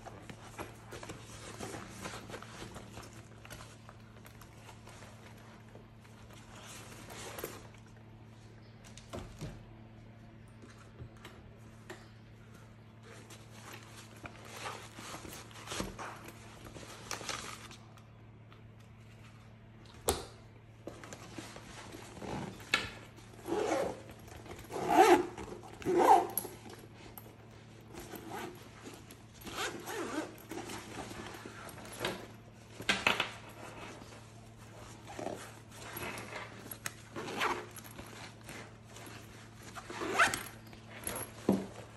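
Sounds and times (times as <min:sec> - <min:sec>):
fabric rustling and scraping: 0:00.0 - 0:08.0, 0:12.9 - 0:17.9, 0:20.9 - 0:41.9.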